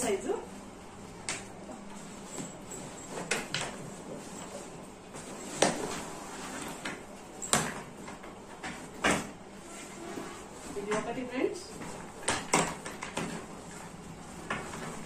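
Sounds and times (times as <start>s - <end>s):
bag handling noise: 1.4s - 15.0s.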